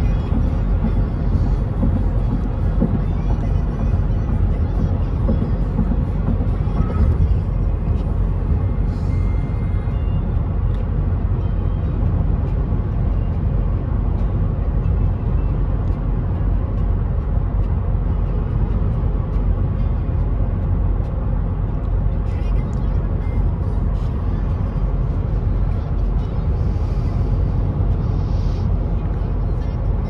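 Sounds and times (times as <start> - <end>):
engine rumble: 0.0 - 30.0
road and tyre noise: 0.0 - 30.0.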